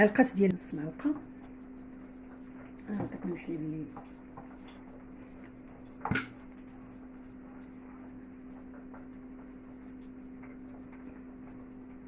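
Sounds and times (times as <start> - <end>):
hands working dough: 0.0 - 12.0
steady low hum: 0.0 - 12.0.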